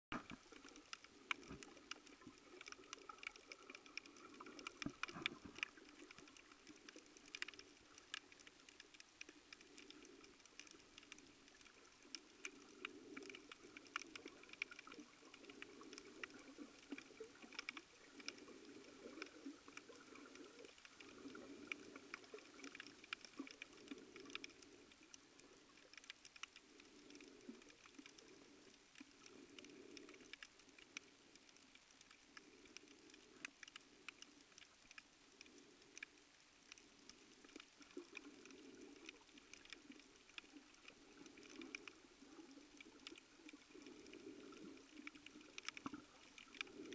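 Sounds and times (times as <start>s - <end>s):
underwater clicks crackling: 0.1s - 46.9s.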